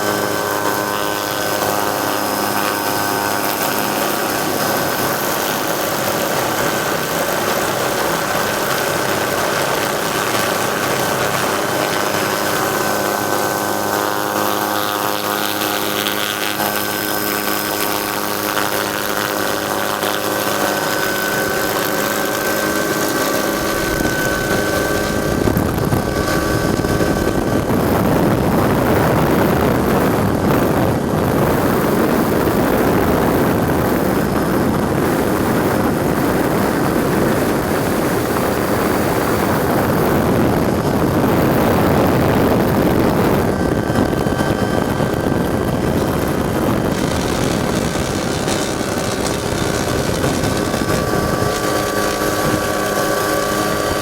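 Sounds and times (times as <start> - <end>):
helicopter whine: 0.0 - 54.0.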